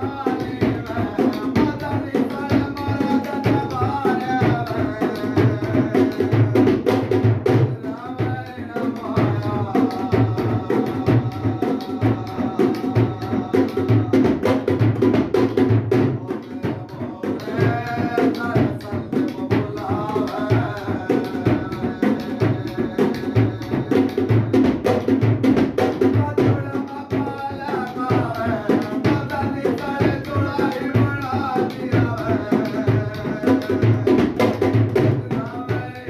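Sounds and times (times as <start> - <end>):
hand drum fast rhythm: 0.0 - 36.0.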